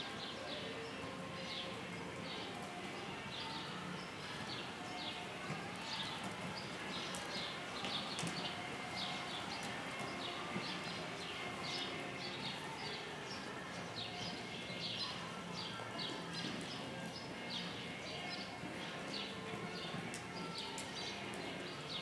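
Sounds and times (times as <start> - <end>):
muffled hoofbeats on dirt: 1.4 - 22.0.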